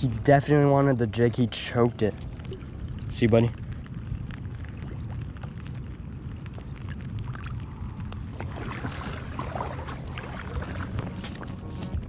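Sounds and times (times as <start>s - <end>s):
steady low rumble: 0.0s - 12.0s
water splashing and trickling: 0.0s - 12.0s.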